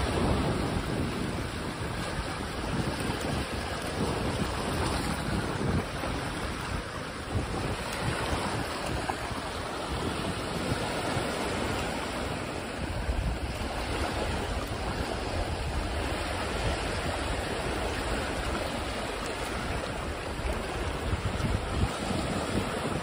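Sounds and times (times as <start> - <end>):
small waves lapping on beach: 0.0 - 23.0
wind buffeting microphone: 0.0 - 23.0.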